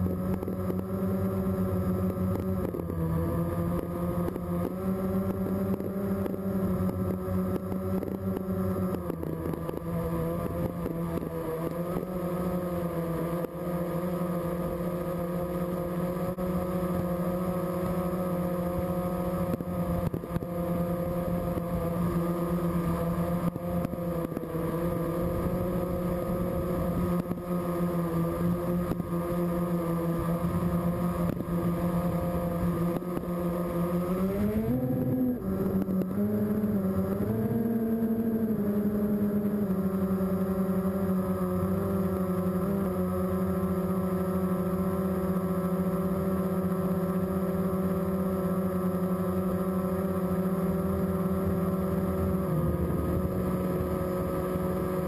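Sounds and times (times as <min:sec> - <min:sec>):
drone motors humming: 0:00.0 - 0:55.0.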